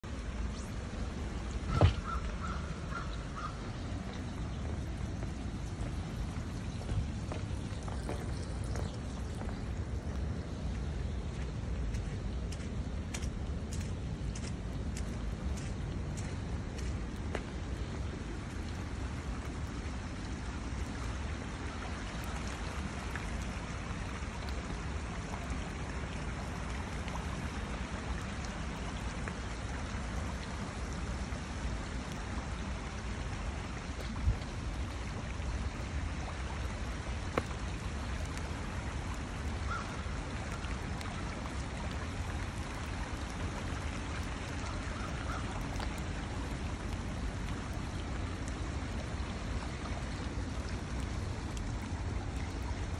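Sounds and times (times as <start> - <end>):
runoff water running: 0.0 - 52.9.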